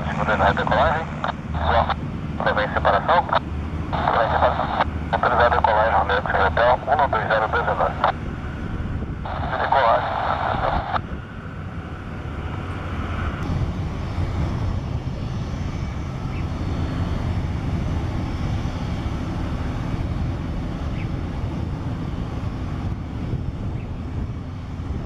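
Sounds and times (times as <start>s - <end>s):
propeller airplane engine drone: 0.0s - 25.0s.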